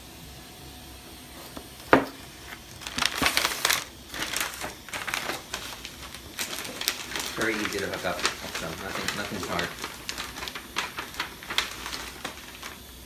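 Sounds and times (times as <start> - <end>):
packaging crinkling and rustling: 1.8 - 13.0.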